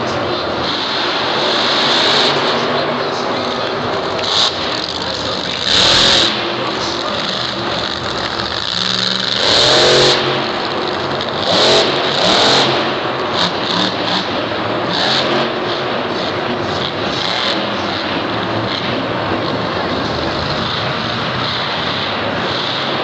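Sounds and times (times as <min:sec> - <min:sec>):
monster truck engines revving: 0:00.0 - 0:23.0.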